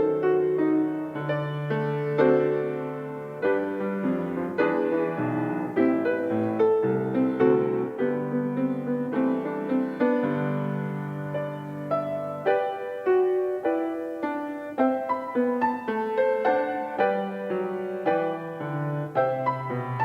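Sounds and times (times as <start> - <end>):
slow solo piano music: 0.0 - 20.0.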